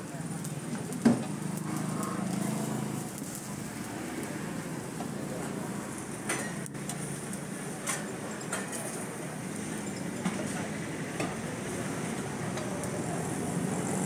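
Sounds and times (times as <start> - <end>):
faint background voices: 0.0 - 14.0.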